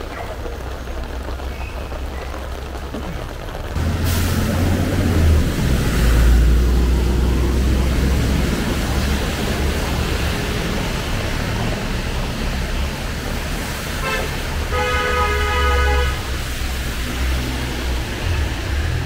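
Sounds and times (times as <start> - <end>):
road noise: 0.0 - 19.0
vehicle engine rumbling: 0.0 - 19.0.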